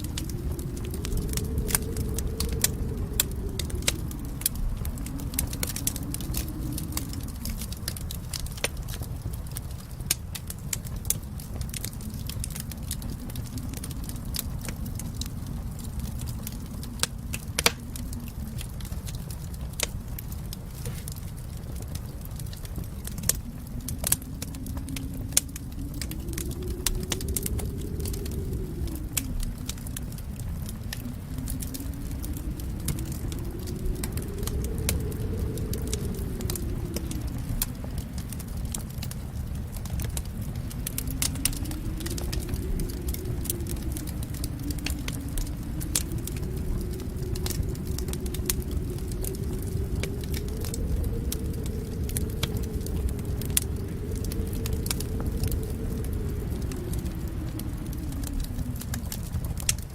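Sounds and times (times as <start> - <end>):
fireplace fire crackling: 0.0 - 59.9
low rumble of flame: 0.0 - 59.9.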